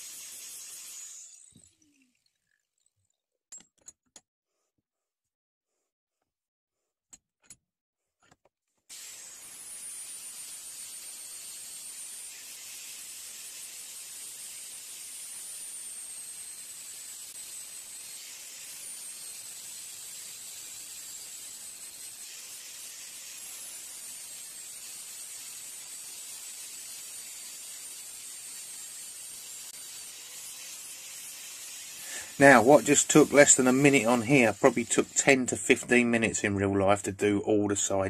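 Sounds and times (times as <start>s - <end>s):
angle grinder on steel: 0.0s - 2.1s, 8.9s - 38.0s.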